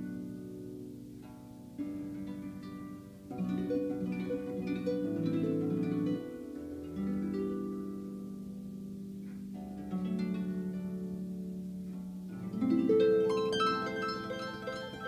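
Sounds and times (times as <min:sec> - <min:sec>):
harp plucked melody: 0:00.0 - 0:15.0.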